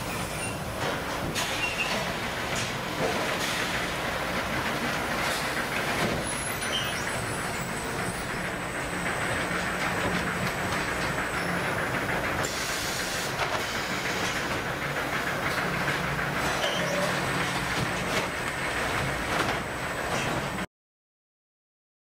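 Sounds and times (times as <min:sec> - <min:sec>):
machinery rumble and hum: 0:00.0 - 0:20.7.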